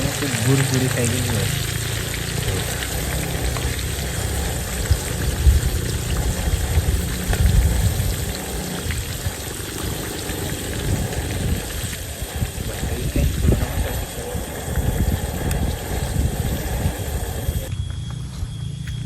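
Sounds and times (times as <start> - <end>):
food sizzling in hot oil: 0.0 - 17.7
low rumble: 0.0 - 19.0.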